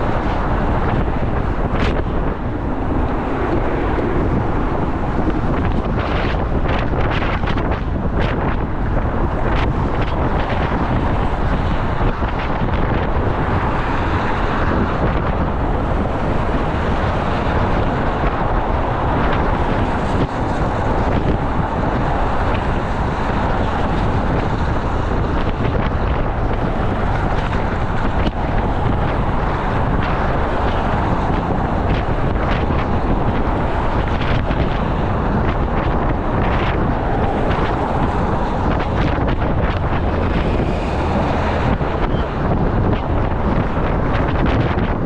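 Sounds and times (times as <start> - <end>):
strong wind buffeting microphone: 0.0 - 45.0.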